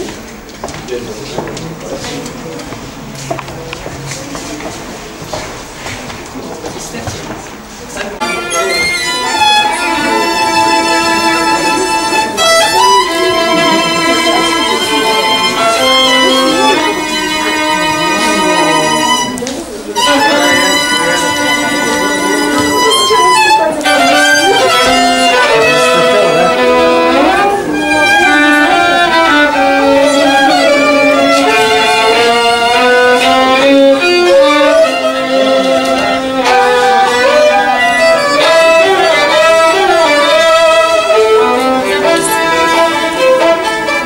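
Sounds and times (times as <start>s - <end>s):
two violins playing a duet: 8.0s - 44.0s.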